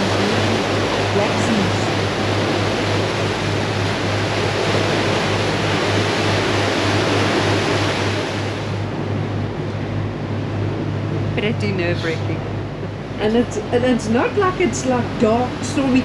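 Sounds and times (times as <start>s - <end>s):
diesel engines droning: 0.0s - 16.0s
strong wind and sea rushing: 0.0s - 16.0s.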